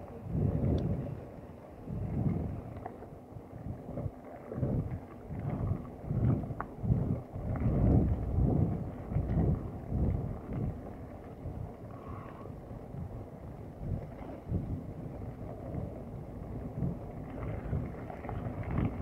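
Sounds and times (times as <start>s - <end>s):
bike rattles: 0.0s - 19.0s
wind rumbling on microphone: 0.0s - 19.0s.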